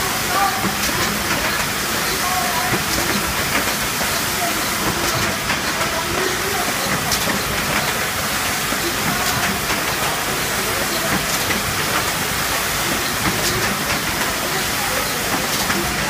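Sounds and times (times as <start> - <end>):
machinery hiss: 0.0 - 16.0.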